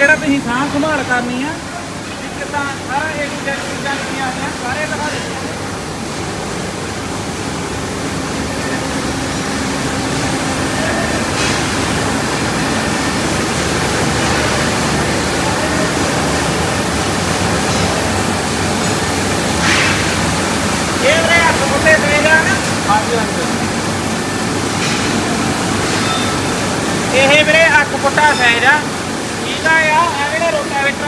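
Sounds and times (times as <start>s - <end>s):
factory floor rushing noise: 0.0s - 31.0s.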